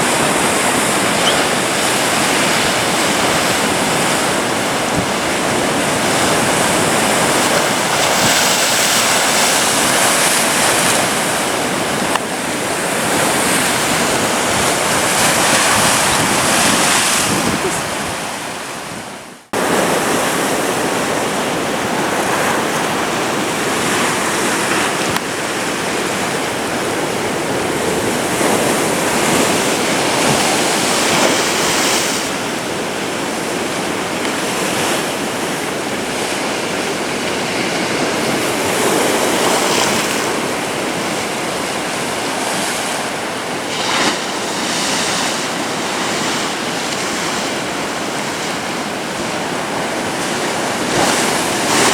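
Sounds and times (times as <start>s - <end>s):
waves breaking on beach: 0.0s - 51.9s.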